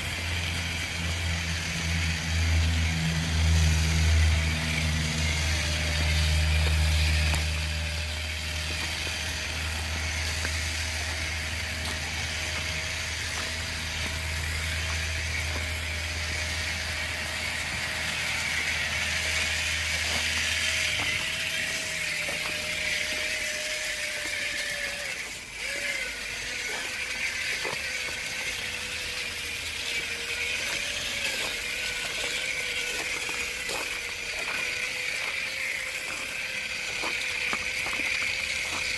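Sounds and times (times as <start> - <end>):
low hum: 0.0 - 38.9
small electric motor and gears: 0.0 - 38.9.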